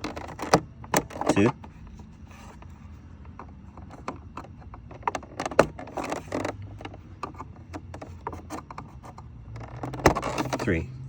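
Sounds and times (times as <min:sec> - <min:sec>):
plastic tab clicking and scraping: 0:00.0 - 0:10.8.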